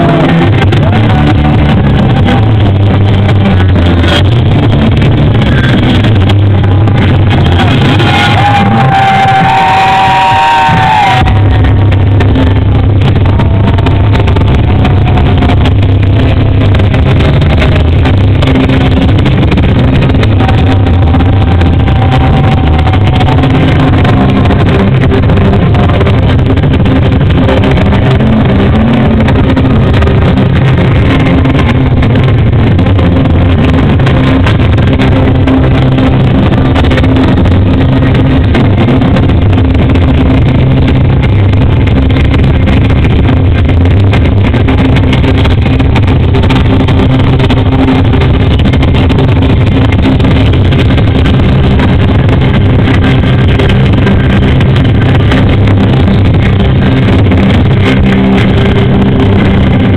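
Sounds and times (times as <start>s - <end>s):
distorted live rock band: 0.0s - 59.9s.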